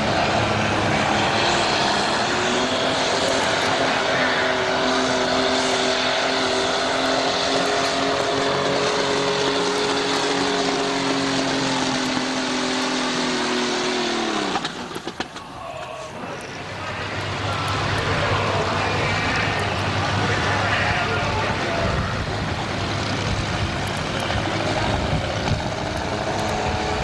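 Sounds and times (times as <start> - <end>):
tractor engine at full throttle: 0.0 - 27.0.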